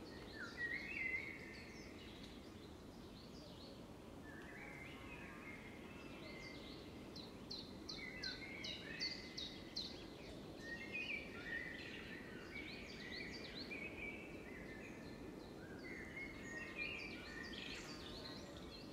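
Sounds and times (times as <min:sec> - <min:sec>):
outdoor background noise: 0:00.0 - 0:18.9
songbirds chirping and trilling: 0:00.0 - 0:18.9.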